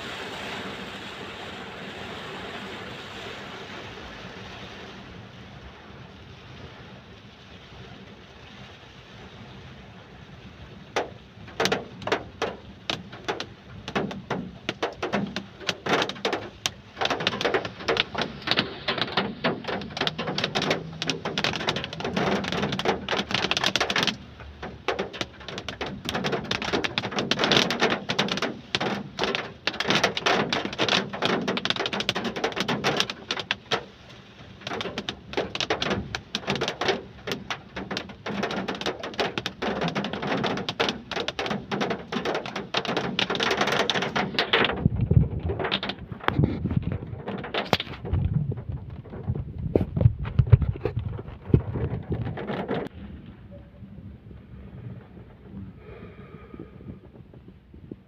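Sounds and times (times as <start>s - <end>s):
heavy rain on a hard surface: 0.0s - 58.0s.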